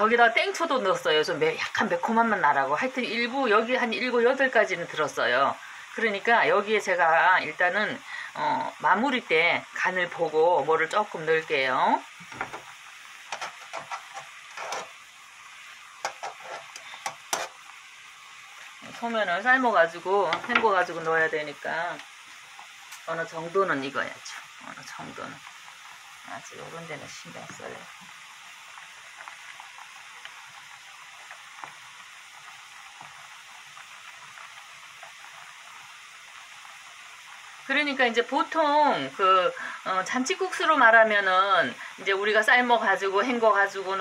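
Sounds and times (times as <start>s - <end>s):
water boiling in a pot: 0.0s - 44.0s.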